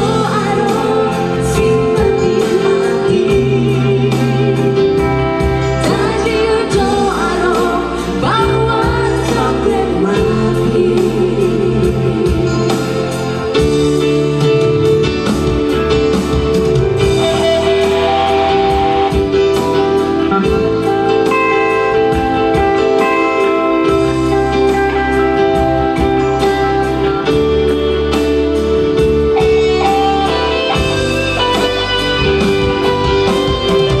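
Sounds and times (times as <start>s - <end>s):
electronic keyboard: 0.0s - 34.0s.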